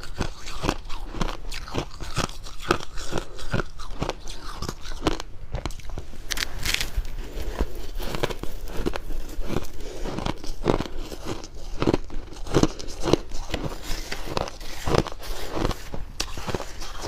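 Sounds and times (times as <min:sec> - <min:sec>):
chewing crunchy frost: 0:00.0 - 0:17.0.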